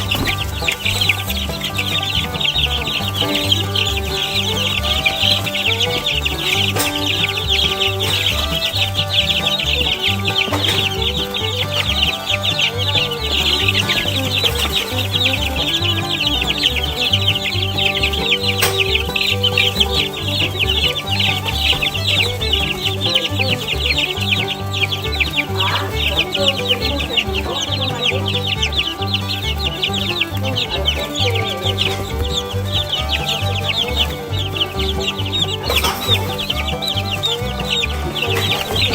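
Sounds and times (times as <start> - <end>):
chicks peeping: 0.0 - 18.3, 19.1 - 38.9
background music with bass line: 0.0 - 38.9.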